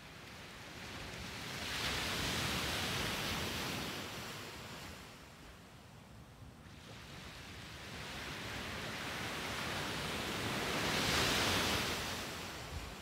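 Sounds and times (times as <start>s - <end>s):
waves breaking on sandy beach: 0.0s - 13.0s.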